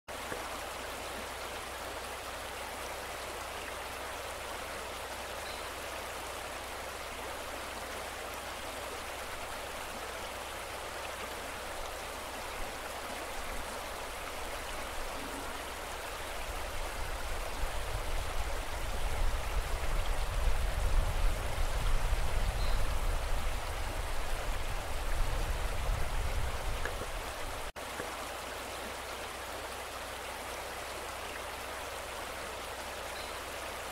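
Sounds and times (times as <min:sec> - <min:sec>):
river rushing: 0:00.1 - 0:33.9.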